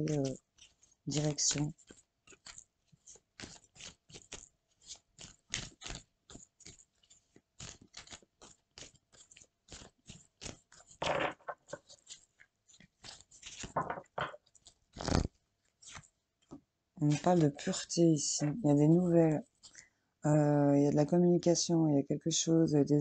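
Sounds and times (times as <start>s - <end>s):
cards being shuffled: 0.0s - 19.9s.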